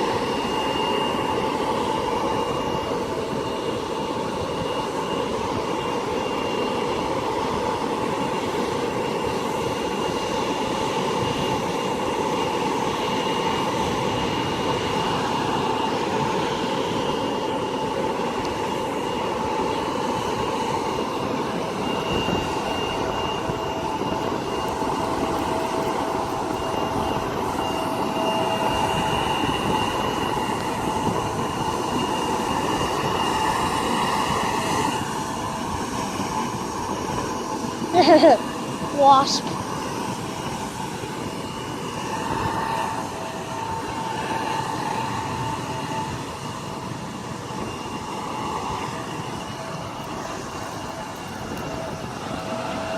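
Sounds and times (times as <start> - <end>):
jet engines idling: 0.0 - 52.9.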